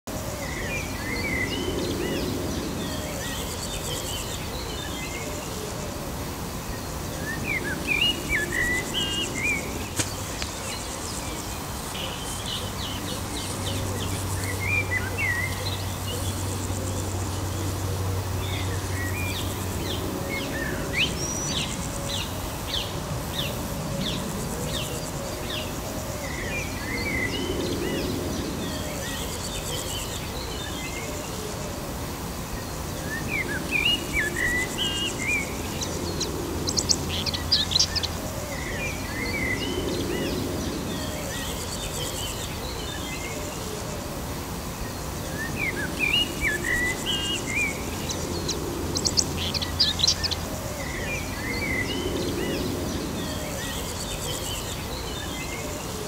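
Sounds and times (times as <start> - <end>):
outdoor background hiss: 0.1 - 56.0
songbirds chirping and singing: 0.1 - 56.0.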